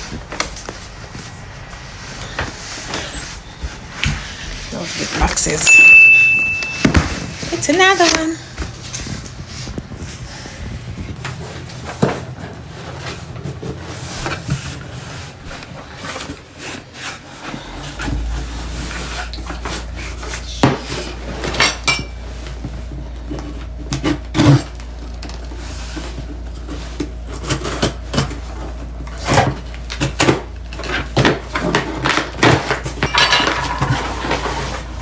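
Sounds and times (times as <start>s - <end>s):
boxes knocking and rustling: 0.0s - 35.0s
low steady hum: 0.0s - 35.0s.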